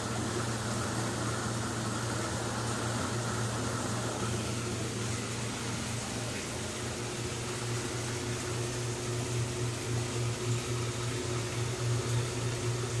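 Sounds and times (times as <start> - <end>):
aquarium pump humming: 0.0 - 13.0.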